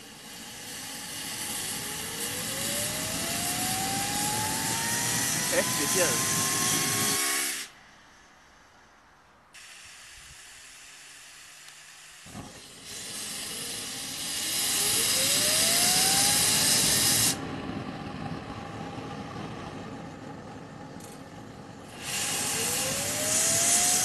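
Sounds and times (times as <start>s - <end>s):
jet engine hissing: 0.0s - 8.6s, 9.6s - 24.0s
jet engine air rush with rising whine: 0.0s - 24.0s.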